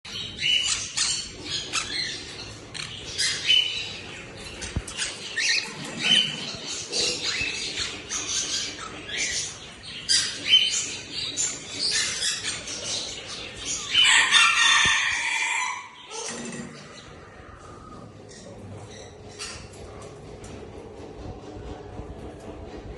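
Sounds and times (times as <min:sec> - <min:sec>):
lovebirds chirping and squawking: 0:00.1 - 0:20.0.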